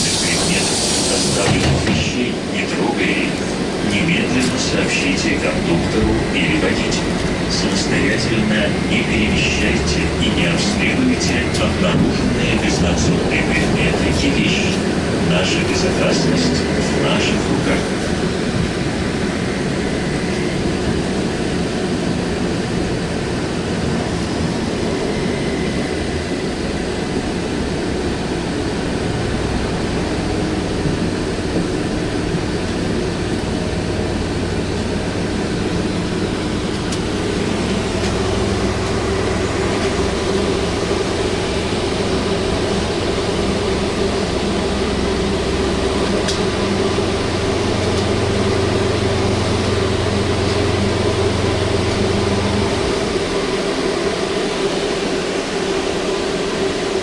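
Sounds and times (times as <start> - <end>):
low drone: 0.0 - 57.0
trolleybus interior hum: 0.0 - 57.0.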